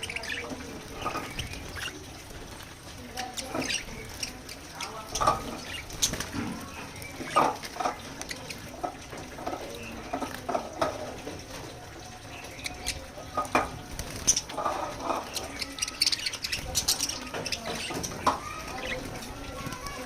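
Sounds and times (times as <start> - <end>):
parrots chirping and squeaking: 0.0 - 20.0
water splashing: 0.0 - 20.0.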